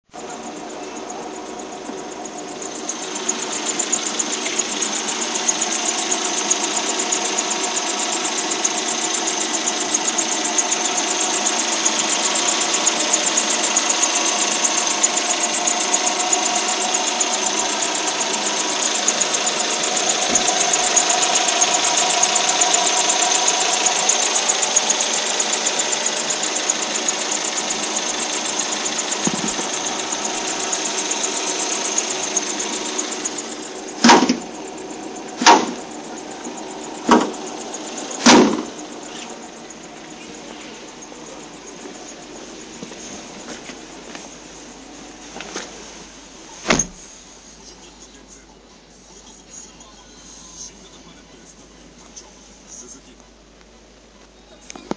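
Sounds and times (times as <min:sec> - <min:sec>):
car engine humming: 0:00.0 - 0:54.9
high-pitched drive-belt noise: 0:00.0 - 0:54.9.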